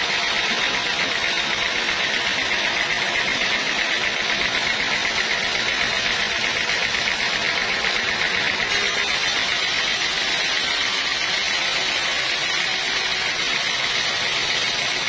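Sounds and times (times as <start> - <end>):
sawmill saw cutting a log: 0.0 - 15.0.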